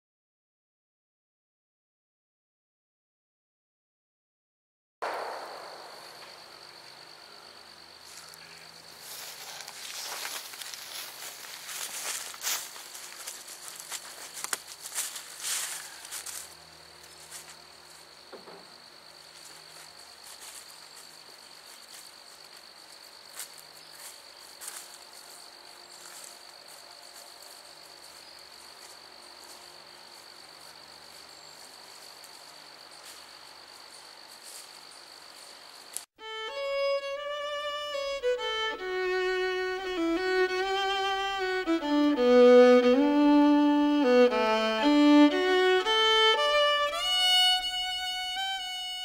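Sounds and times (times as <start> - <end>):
insects trilling: 5.0 - 49.0.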